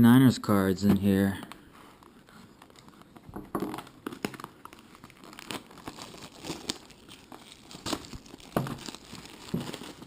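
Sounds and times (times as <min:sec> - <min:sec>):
plastic wrapping crinkling and tearing: 0:01.5 - 0:10.0.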